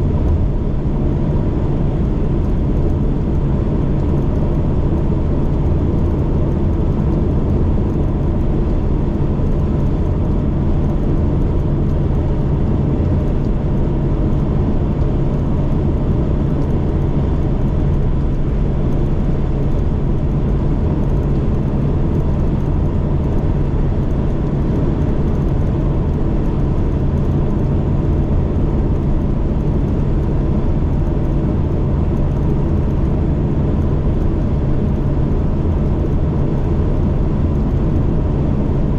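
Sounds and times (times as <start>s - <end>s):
van engine droning: 0.0s - 38.9s.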